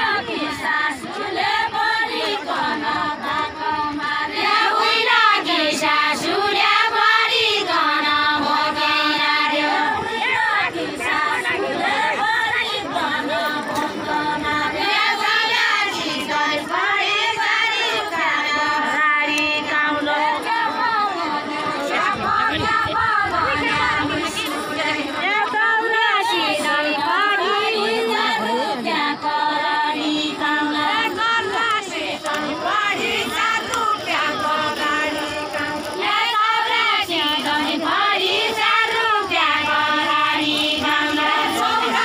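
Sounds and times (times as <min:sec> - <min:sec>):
women singing in chorus: 0:00.0 - 0:42.0.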